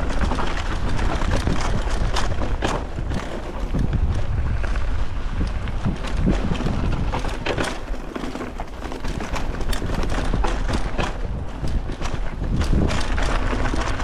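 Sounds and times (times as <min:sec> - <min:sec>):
bike knocking and rattling: 0:00.0 - 0:14.0
wind buffeting microphone: 0:00.0 - 0:14.0.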